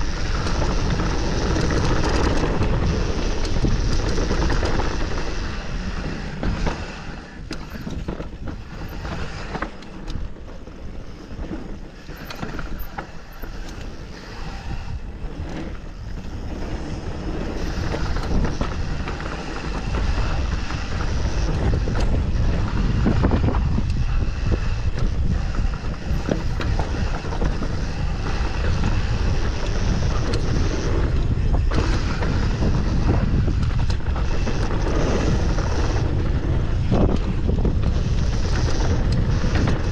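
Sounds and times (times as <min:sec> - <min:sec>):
bicycle tyre noise: 0:00.0 - 0:39.9
bike knocking and rattling: 0:00.0 - 0:39.9
wind buffeting microphone: 0:00.0 - 0:39.9.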